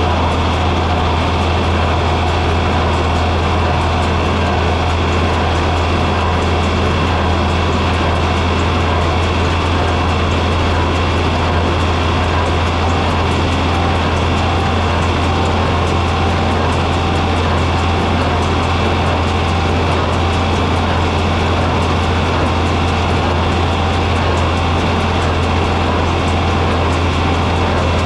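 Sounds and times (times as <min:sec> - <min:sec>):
tractor engine droning: 0:00.0 - 0:28.0.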